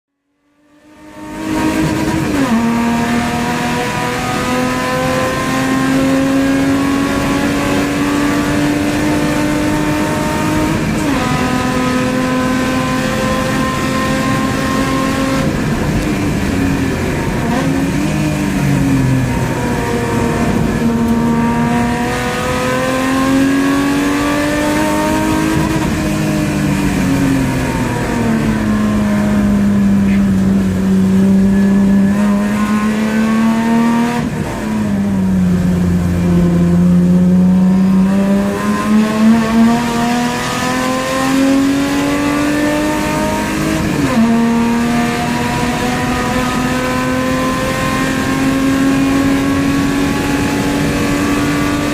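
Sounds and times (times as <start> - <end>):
race car engine revving: 0.6 - 51.9.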